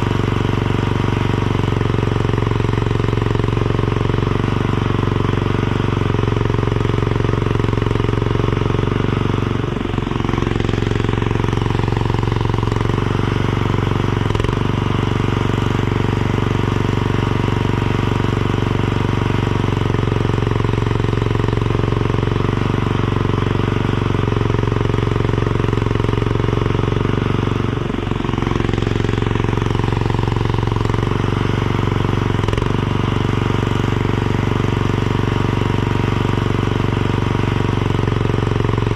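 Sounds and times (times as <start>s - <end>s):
skid steer engine running: 0.0s - 38.9s.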